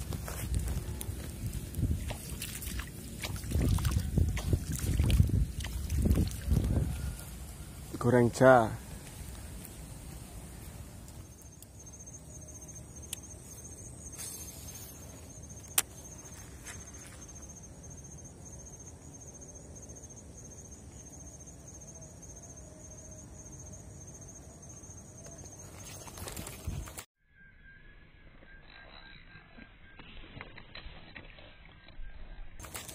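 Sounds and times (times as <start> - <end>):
insect trilling: 0.0 - 26.8, 27.4 - 32.9.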